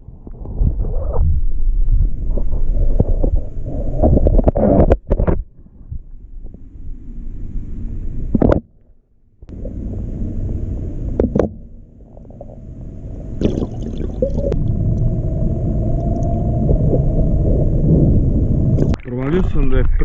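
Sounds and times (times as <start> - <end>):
underwater water rumble: 0.0 - 8.8, 9.4 - 20.0.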